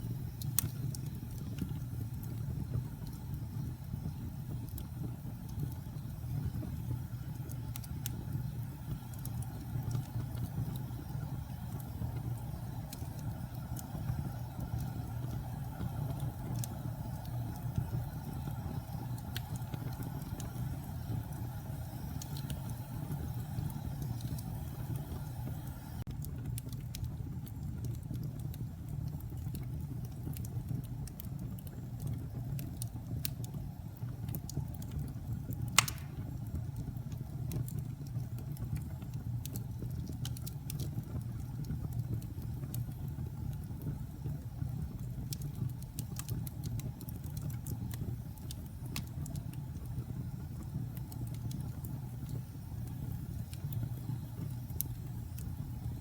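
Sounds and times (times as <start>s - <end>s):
fire popping: 0.0s - 56.0s
wood fire burning: 0.0s - 56.0s.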